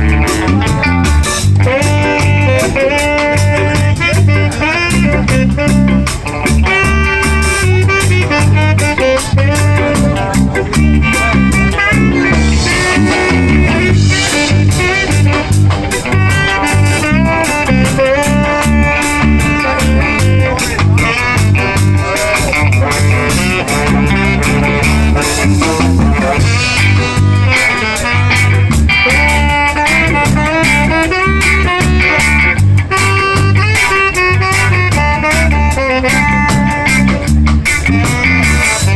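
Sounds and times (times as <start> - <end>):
guitar: 0.0 - 38.9
live band playing: 0.0 - 38.9.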